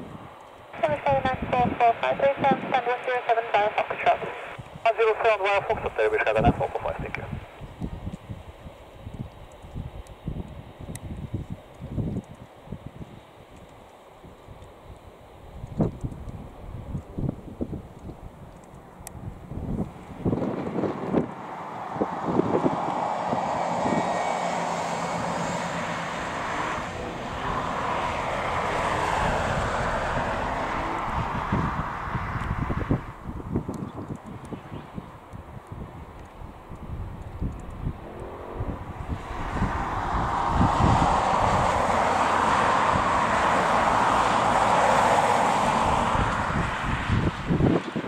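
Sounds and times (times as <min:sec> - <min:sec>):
wind buffeting microphone: 0:00.0 - 0:03.0, 0:05.5 - 0:48.0
jet engines running: 0:00.3 - 0:12.4, 0:13.3 - 0:48.0.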